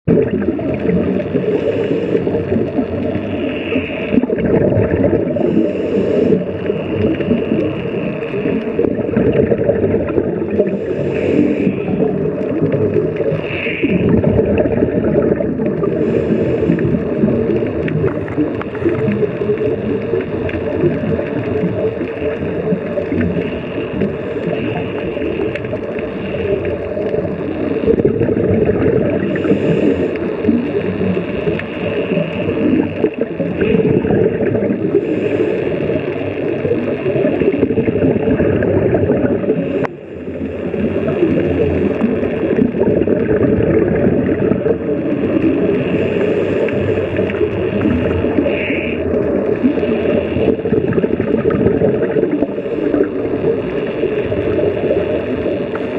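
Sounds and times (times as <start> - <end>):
muffled underwater rumble: 0.0 - 55.9
scuba diver's exhaled bubbles: 0.0 - 55.9.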